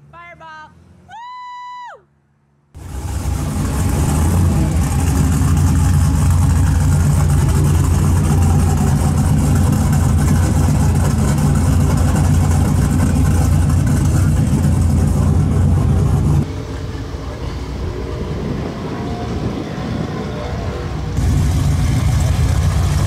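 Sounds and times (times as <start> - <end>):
truck engine idling: 2.8 - 23.0.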